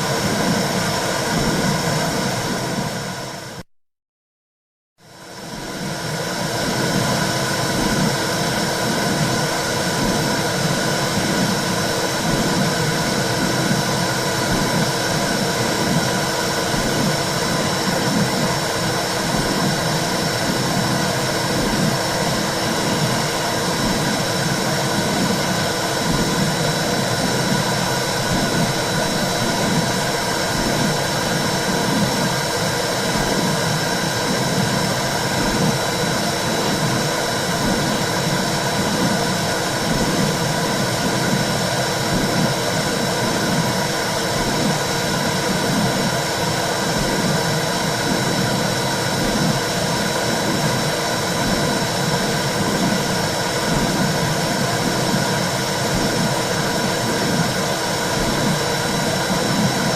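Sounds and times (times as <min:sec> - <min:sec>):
low rhythmic heartbeat pulse: 0:06.6 - 0:59.9.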